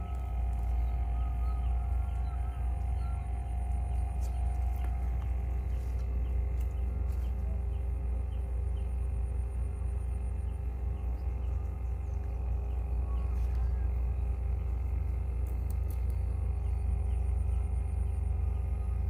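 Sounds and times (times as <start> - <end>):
faint insect trill: 0.0 - 19.0
low outdoor rumble: 0.0 - 19.0.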